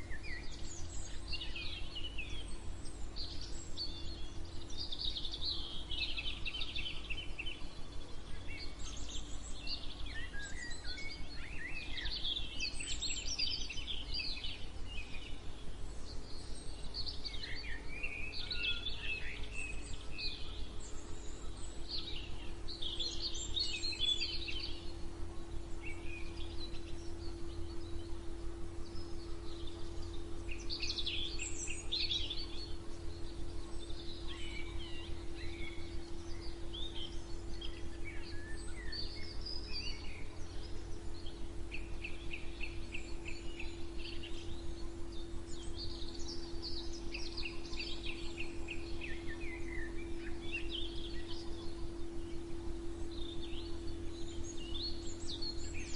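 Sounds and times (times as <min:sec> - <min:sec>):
birds singing and chirping: 0:00.0 - 0:55.9
rapid bird trills: 0:00.0 - 0:55.9
steady low hum: 0:00.0 - 0:55.9.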